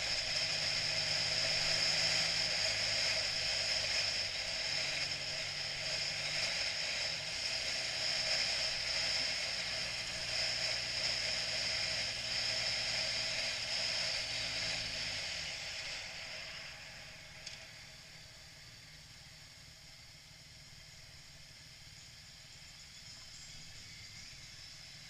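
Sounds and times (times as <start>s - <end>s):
faint hiss: 0.0s - 25.0s
motorcycle engine running: 0.0s - 25.0s.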